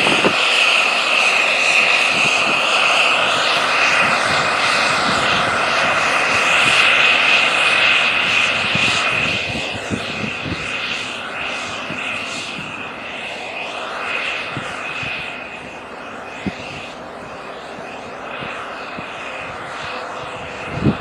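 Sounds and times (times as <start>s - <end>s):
high engine whine: 0.0s - 21.0s.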